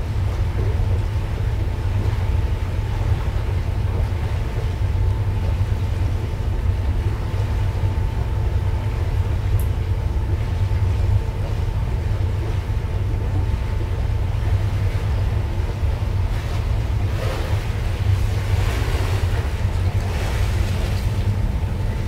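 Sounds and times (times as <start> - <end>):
ship engines rumbling: 0.0 - 22.0
steady hum tone: 0.0 - 22.0.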